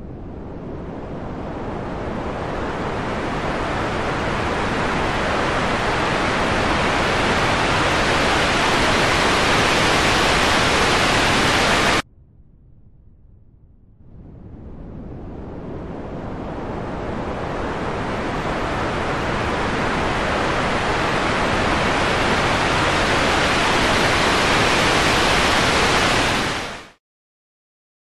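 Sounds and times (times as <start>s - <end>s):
rushing noise: 0.8s - 12.0s, 14.1s - 27.0s.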